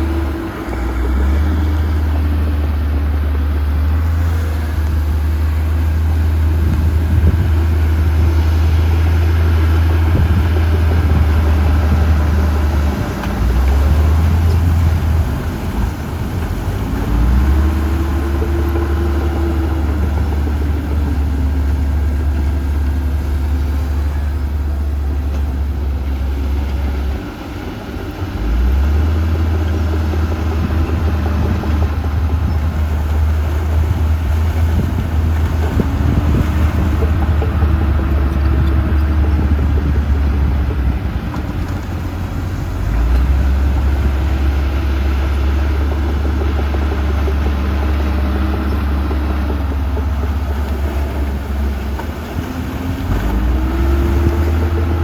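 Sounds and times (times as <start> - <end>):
heavy diesel machinery droning: 0.0 - 55.0.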